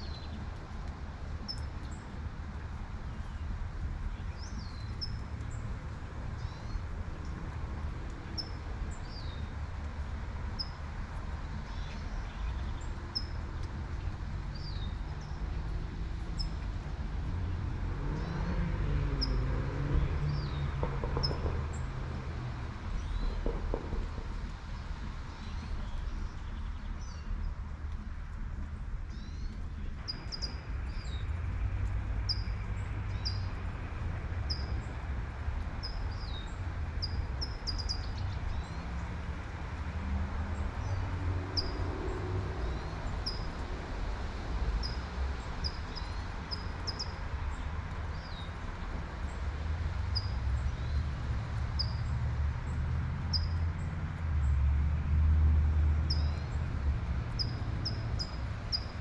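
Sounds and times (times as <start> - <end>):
low traffic rumble: 0.0 - 59.0.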